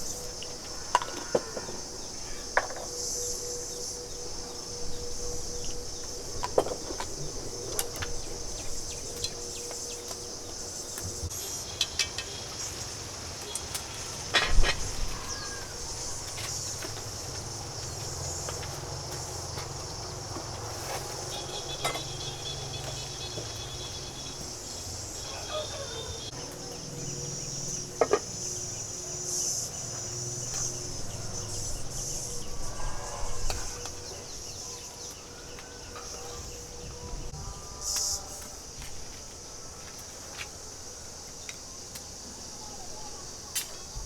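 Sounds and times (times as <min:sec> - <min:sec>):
high insect drone: 0:00.0 - 0:44.0.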